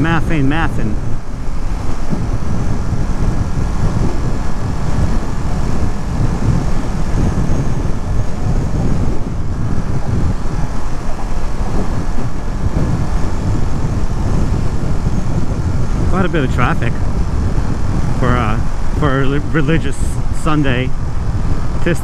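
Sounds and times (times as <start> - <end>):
motorcycle engine: 0.0 - 21.8
wind rumble on microphone: 0.0 - 22.0.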